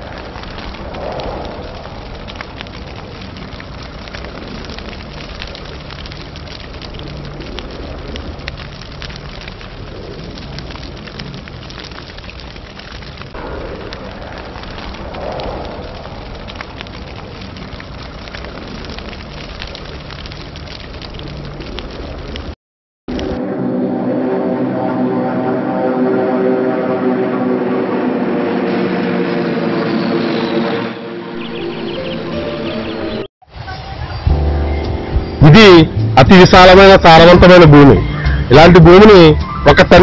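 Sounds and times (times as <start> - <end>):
fire crackling: 0.0 - 23.4, 27.6 - 40.0
low rumble: 0.0 - 32.3.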